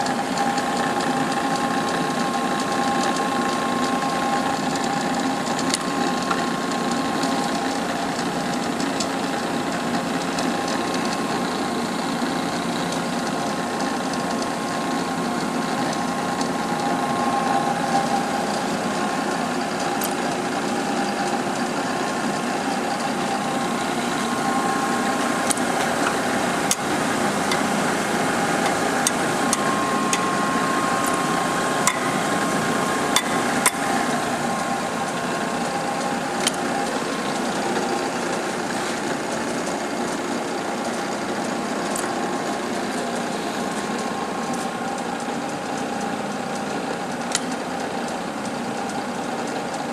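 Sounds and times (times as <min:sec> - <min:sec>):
grinder machine hum: 0:00.0 - 0:49.9
whining tones: 0:00.0 - 0:49.9.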